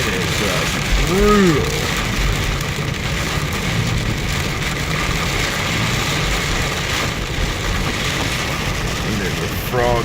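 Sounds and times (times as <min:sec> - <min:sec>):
car engine and tyre rumble: 0:00.0 - 0:10.0
rain hissing on a car: 0:00.0 - 0:10.0.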